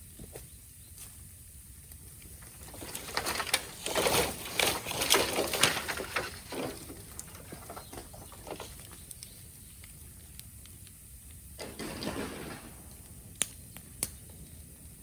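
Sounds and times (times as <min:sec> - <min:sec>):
bamboo fire crackling and popping: 0:00.0 - 0:15.0.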